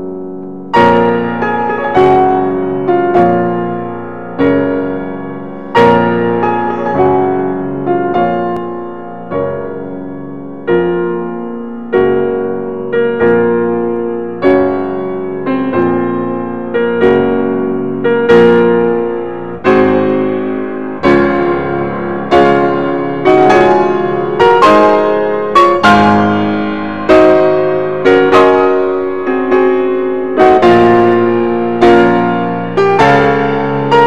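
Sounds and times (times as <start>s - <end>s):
slow piano chords: 0.0s - 34.0s.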